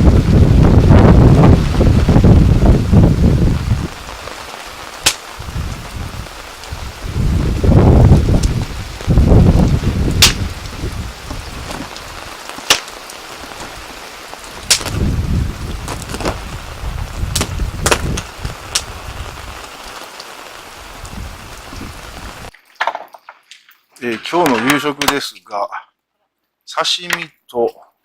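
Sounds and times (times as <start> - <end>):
campfire crackling and popping: 0.0 - 25.3.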